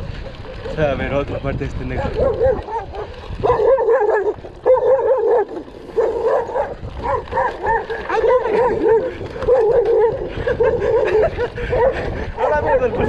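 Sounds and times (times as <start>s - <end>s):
dogs barking: 0.1s - 1.0s, 1.9s - 13.0s.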